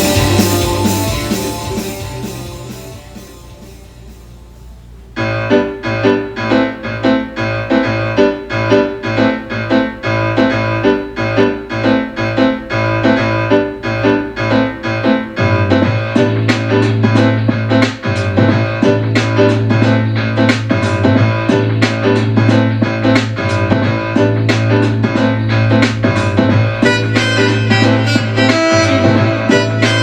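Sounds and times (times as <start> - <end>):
bass line: 0.0 - 6.6, 7.4 - 30.0
piano chords through speakers: 0.0 - 30.0.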